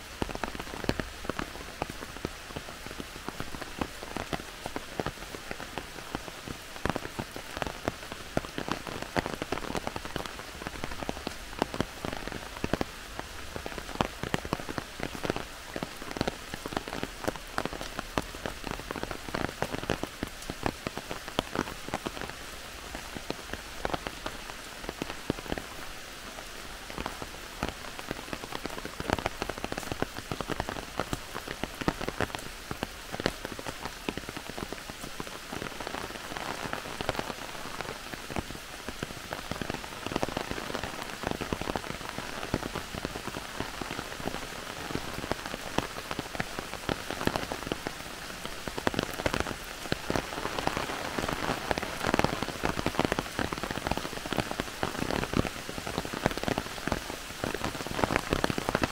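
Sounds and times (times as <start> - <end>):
heavy rain in a forest: 0.0 - 58.9
raindrops striking close by: 0.0 - 58.9.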